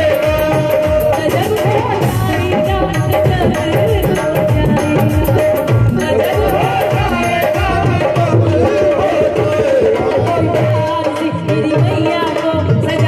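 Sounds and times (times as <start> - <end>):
steady drum beat: 0.0 - 13.0
woman singing through microphone: 0.0 - 13.0.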